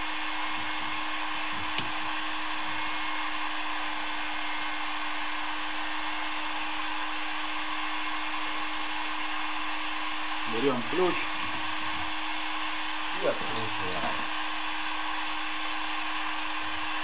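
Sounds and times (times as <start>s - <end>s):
fan motor hum: 0.0s - 17.0s
heat gun blower hiss: 0.0s - 17.0s.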